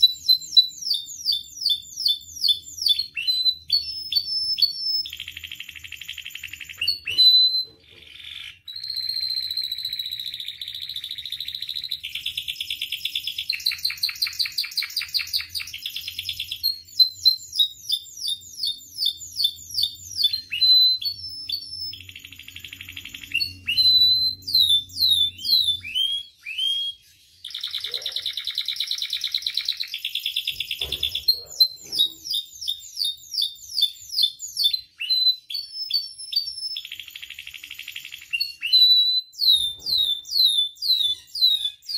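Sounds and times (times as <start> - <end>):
canary singing trills and whistles: 0.0 - 41.9.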